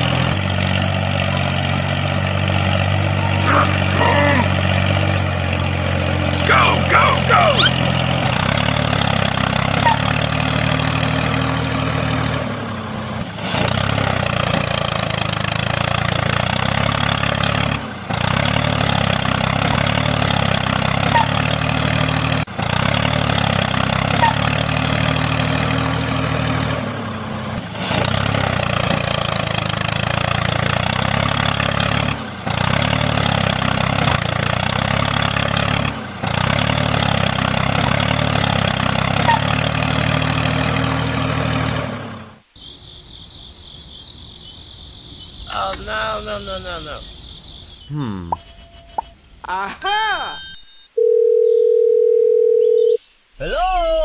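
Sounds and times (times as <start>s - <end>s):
tractor engine running: 0.0s - 49.2s.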